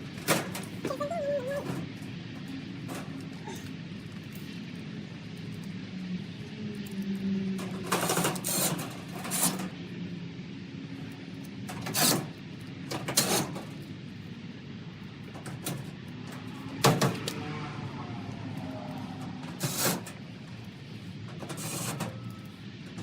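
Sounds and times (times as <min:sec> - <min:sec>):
dryer motor hum: 0:00.0 - 0:23.0.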